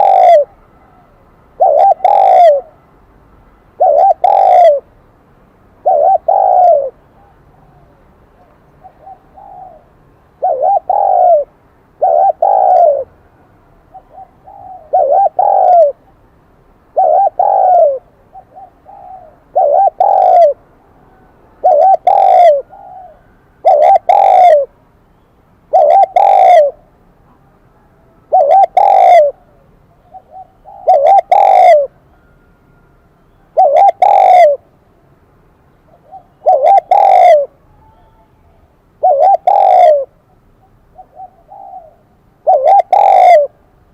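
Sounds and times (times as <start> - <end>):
dove cooing: 0.0 - 2.8, 3.8 - 4.9, 5.8 - 13.2, 13.9 - 16.1, 16.9 - 24.8, 25.7 - 26.9, 27.8 - 34.7, 35.9 - 43.6.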